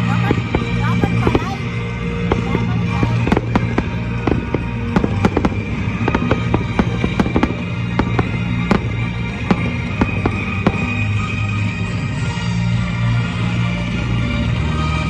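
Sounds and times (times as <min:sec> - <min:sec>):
music with held tones: 0:00.0 - 0:15.0.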